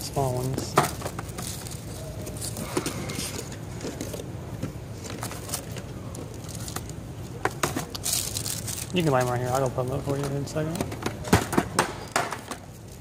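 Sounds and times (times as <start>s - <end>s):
handling clicks and rustling: 0.0s - 13.0s
steady low hum: 0.0s - 13.0s.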